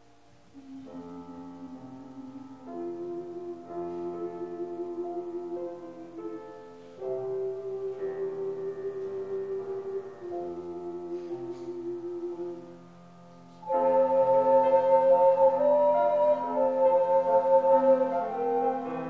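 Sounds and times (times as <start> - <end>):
ocarina ensemble playing hymn: 0.0 - 19.0.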